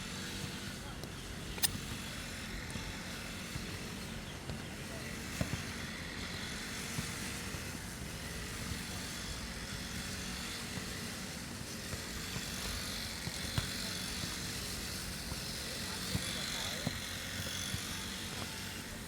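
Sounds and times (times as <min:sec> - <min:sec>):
lawn mower cutting grass: 0:00.0 - 0:19.0.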